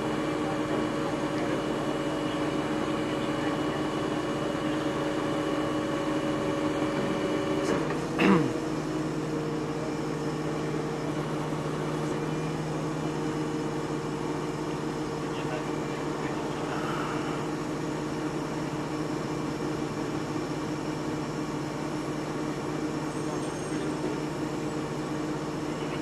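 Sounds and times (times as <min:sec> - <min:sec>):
heavy truck engines humming: 0:00.0 - 0:26.0.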